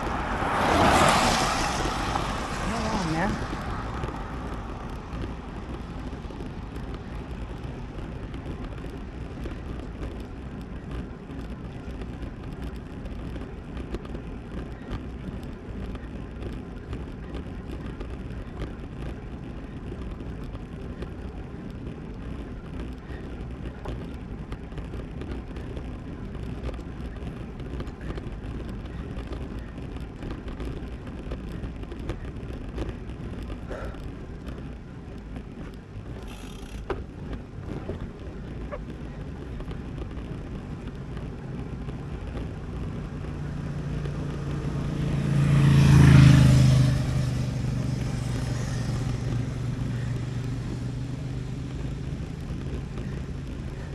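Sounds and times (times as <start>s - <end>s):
bike tyres rolling on road: 0.0s - 53.9s
wind on microphone: 0.0s - 53.9s.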